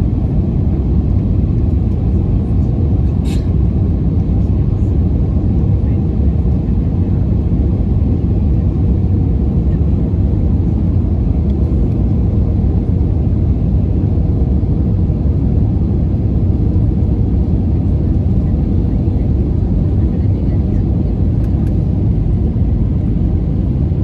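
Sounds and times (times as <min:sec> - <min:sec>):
jet cabin engine rumble: 0:00.0 - 0:24.0.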